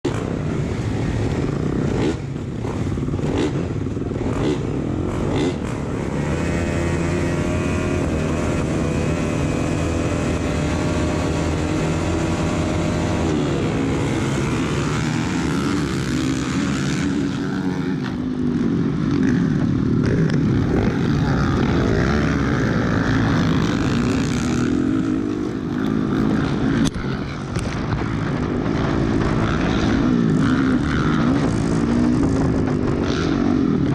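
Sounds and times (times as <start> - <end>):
motocross bike engines revving: 0.0 - 33.9.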